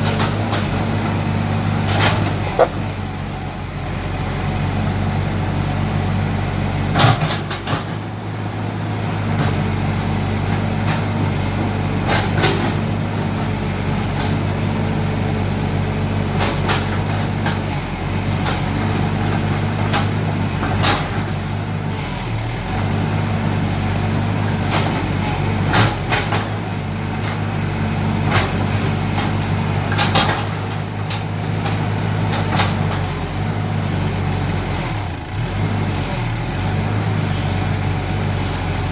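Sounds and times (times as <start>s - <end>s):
mini excavator engine running: 0.0s - 38.9s.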